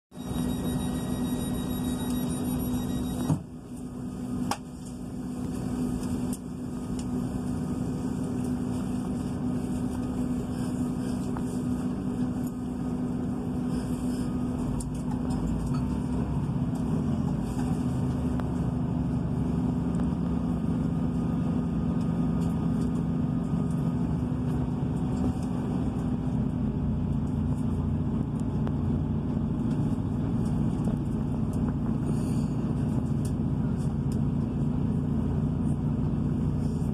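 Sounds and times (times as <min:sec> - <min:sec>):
diesel train engine rumble: 0:00.1 - 0:36.9.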